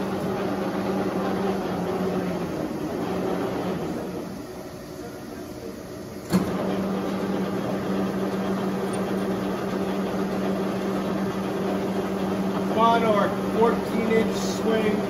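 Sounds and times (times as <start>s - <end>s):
lathe running hum: 0.0s - 15.0s.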